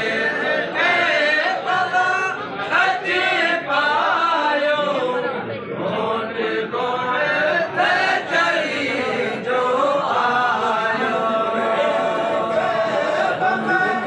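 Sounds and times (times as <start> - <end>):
group of voices chanting: 0.0 - 14.0.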